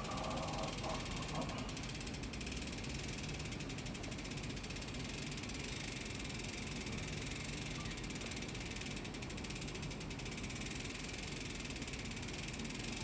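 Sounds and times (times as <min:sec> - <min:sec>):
bicycle freewheel ticking: 0:00.0 - 0:13.0.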